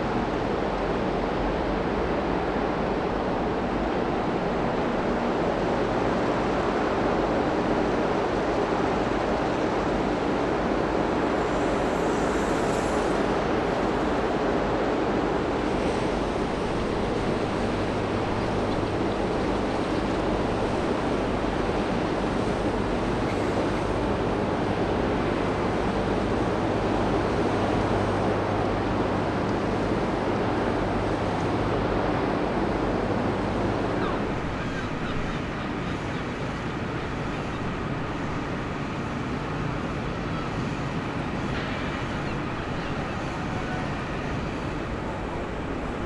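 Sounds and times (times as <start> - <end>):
ship engines rumbling: 0.0 - 46.0
wind: 0.0 - 46.0.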